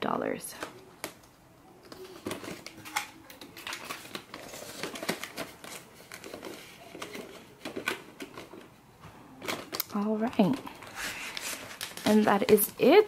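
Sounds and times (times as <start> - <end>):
plastic and paper rustling: 0.5 - 13.0.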